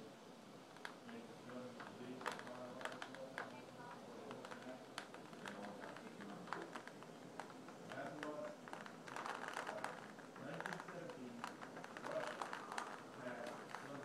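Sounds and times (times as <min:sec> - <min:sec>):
falling rain hiss: 0:00.0 - 0:14.0
raindrops tapping hard surface: 0:00.7 - 0:14.0.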